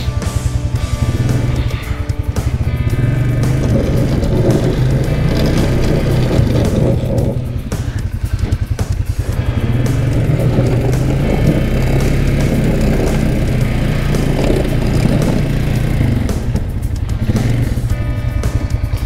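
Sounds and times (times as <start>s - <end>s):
atv engine running under load: 0.0s - 19.0s.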